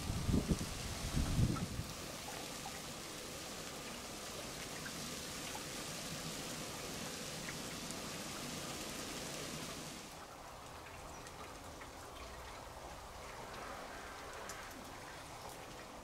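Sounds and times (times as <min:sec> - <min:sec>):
light rain hissing: 0:00.0 - 0:16.0
raindrops ticking: 0:01.8 - 0:16.0.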